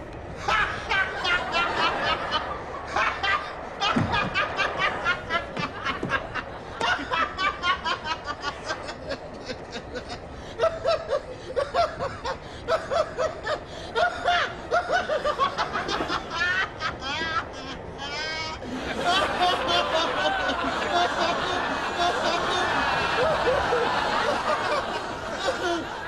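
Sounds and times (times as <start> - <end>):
rapid giggling: 0.4 - 26.0.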